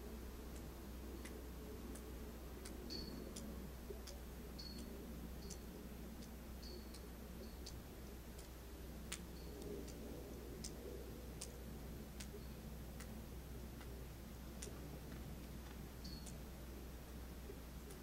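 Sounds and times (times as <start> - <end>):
steady low hum: 0.0 - 18.0
faint sharp ticks: 0.5 - 14.0, 14.6 - 16.4.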